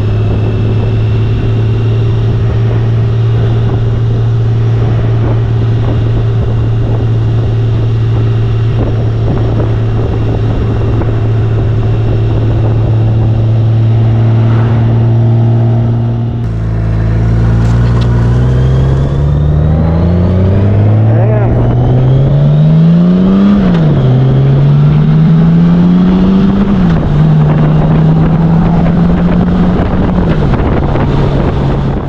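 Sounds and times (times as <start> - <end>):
motorcycle engine cruising: 0.0 - 32.0
wind buffeting microphone: 0.0 - 32.0.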